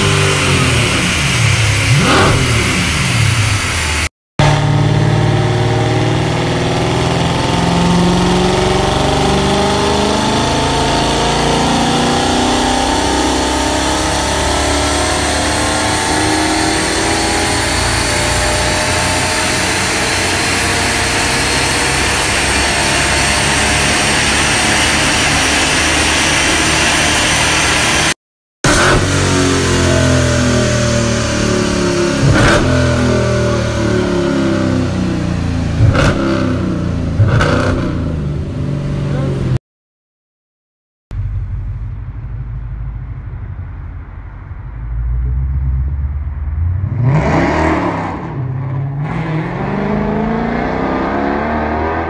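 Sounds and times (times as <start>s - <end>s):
car engine revving on dyno: 0.0s - 39.6s, 41.2s - 52.0s.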